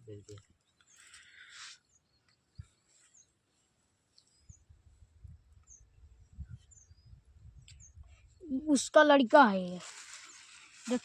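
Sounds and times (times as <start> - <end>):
faint bird chirps: 0.0 - 8.9.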